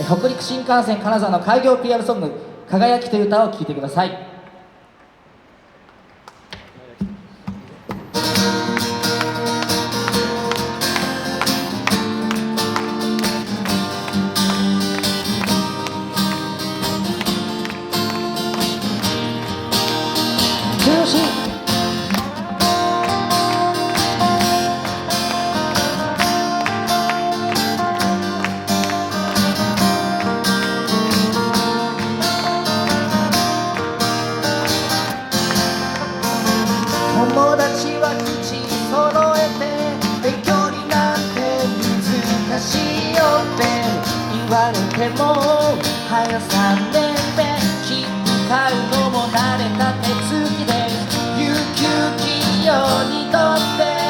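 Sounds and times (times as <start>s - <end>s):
guitars plucked and strummed: 7.1s - 54.0s.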